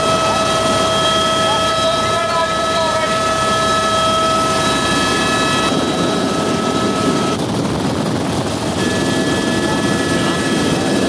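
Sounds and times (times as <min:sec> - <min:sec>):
constant high whine: 0:00.0 - 0:11.0
helicopter rotor and engine drone: 0:00.0 - 0:11.0.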